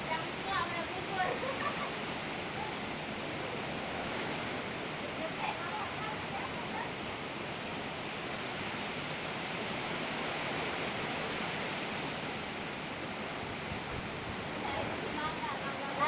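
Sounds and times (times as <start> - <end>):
strong wind blowing: 0.0 - 16.0.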